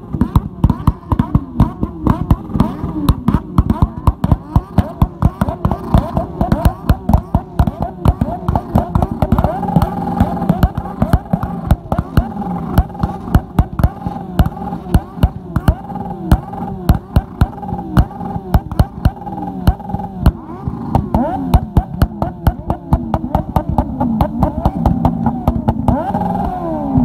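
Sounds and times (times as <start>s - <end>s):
exhaust cracks: 0.0s - 27.0s
motorcycle engines at rev limiter: 0.0s - 27.0s.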